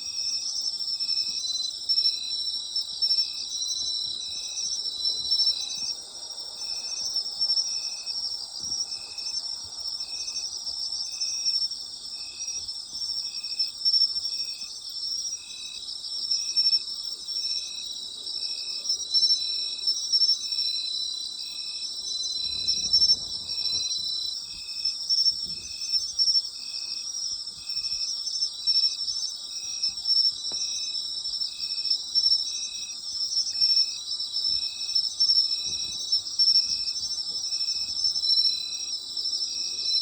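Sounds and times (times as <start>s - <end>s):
insect chirping: 0.0s - 40.0s
insects trilling: 0.1s - 40.0s.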